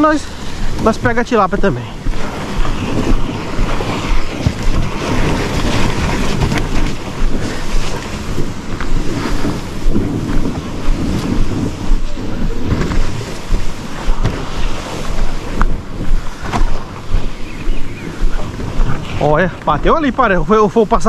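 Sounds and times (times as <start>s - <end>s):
water lapping and splashing: 0.0s - 21.0s
wind buffeting microphone: 0.0s - 21.0s.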